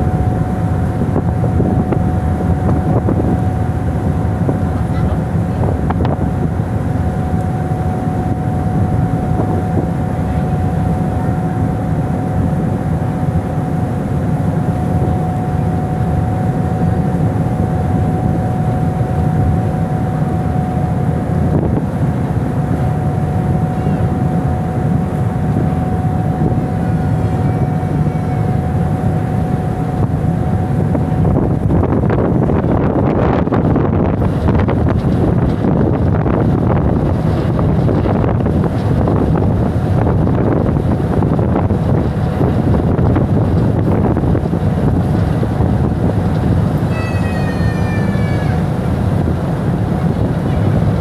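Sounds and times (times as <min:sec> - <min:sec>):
ship engine droning: 0:00.0 - 0:51.0
thin steady whine: 0:00.0 - 0:51.0
wind buffeting microphone: 0:00.0 - 0:51.0.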